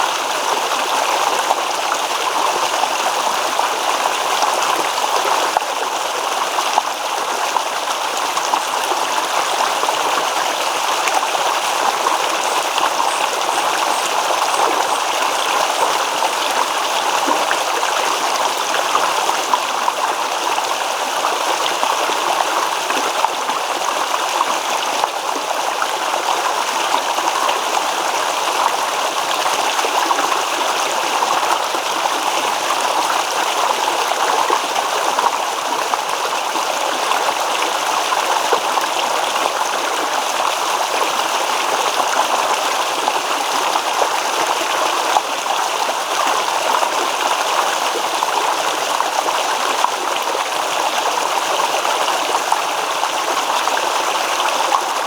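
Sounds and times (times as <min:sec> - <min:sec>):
babbling stream: 0:00.0 - 0:55.0.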